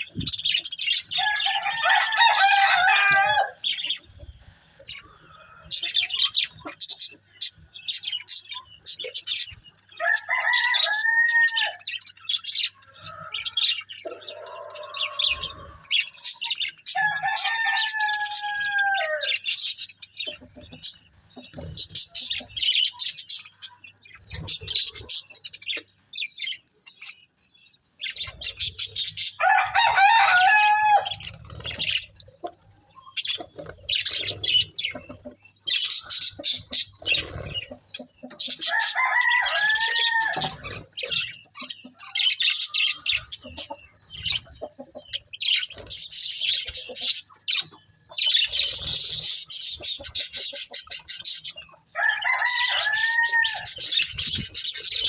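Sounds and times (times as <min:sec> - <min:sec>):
budgerigars twittering: 0:00.0 - 0:55.0.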